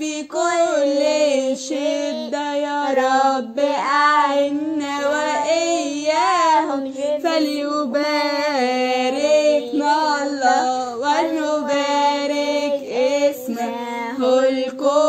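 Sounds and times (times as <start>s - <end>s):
girls singing a hymn: 0.0s - 15.0s.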